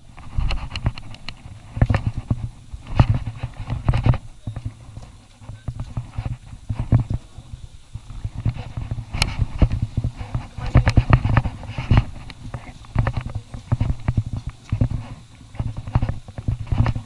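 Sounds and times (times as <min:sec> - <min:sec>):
footsteps on rocky trail: 0:00.0 - 0:17.0.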